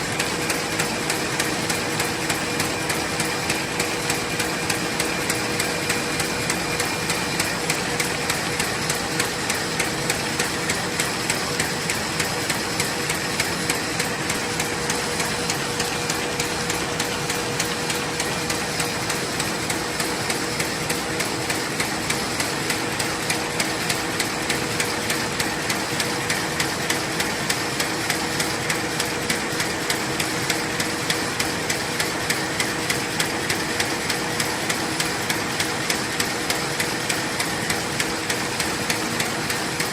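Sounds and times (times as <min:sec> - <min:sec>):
constant machine hum: 0:00.0 - 0:39.9.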